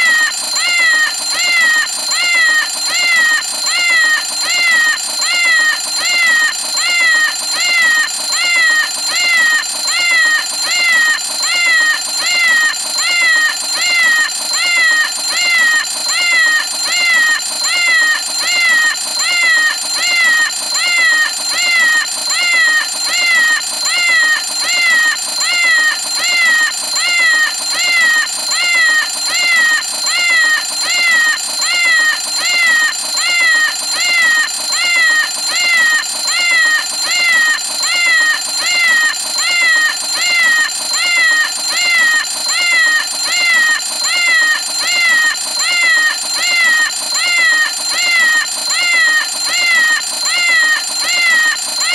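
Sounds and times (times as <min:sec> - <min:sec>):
alarm clock meowing: 0:00.0 - 0:51.9.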